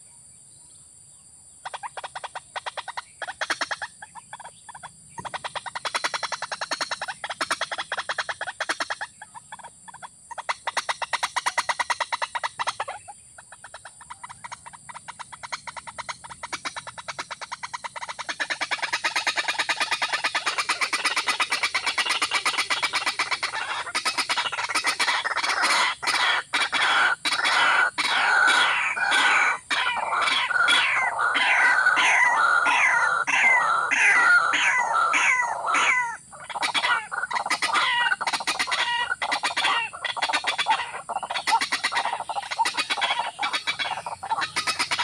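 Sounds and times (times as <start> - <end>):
bird pulsing call: 1.6 - 45.0.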